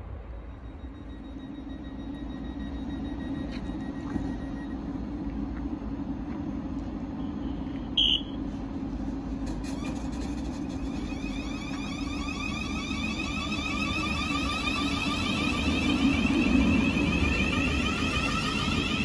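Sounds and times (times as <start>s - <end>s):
train equipment humming: 0.0s - 19.0s.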